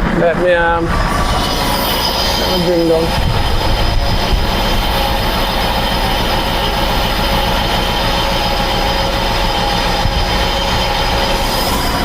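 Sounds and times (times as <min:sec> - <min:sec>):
forklift engine rumbling: 0:00.0 - 0:12.0
high hydraulic whine: 0:00.0 - 0:12.0.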